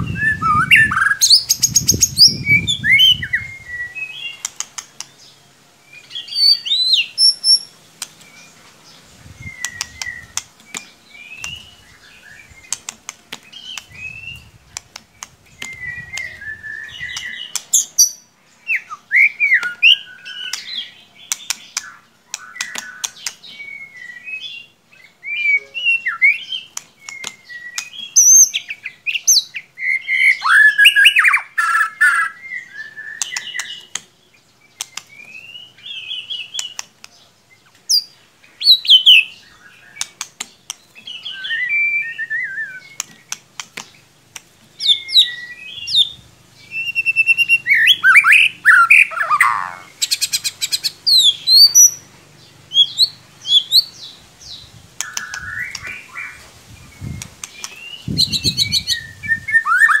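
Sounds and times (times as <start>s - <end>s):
songbird whistling song: 0.0s - 60.0s.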